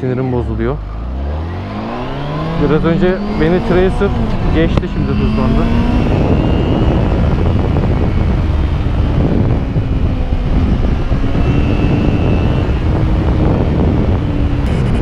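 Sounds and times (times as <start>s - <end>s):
motorcycle engine hum: 0.0s - 15.0s
wind buffeting microphone: 1.8s - 15.0s.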